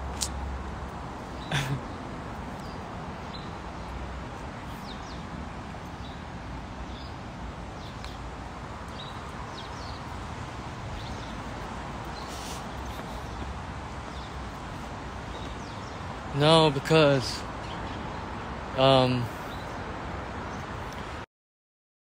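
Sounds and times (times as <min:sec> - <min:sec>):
birds chirping: 0:00.0 - 0:21.2
outdoor background hiss: 0:00.0 - 0:21.2.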